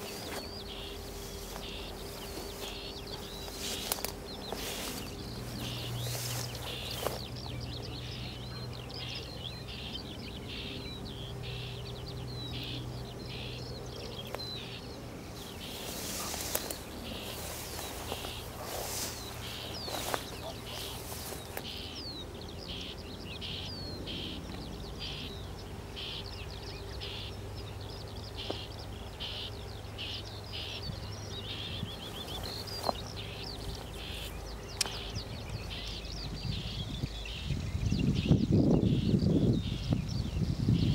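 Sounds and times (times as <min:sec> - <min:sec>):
songbirds chirping: 0:00.0 - 0:40.9
steady low hum: 0:00.0 - 0:40.9.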